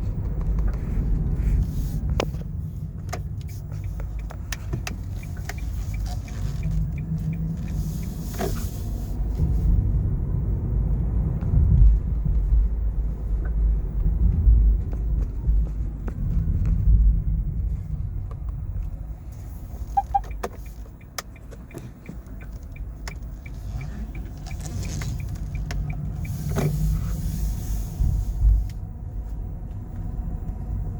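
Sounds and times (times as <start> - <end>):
car road rumble: 0.0 - 30.9.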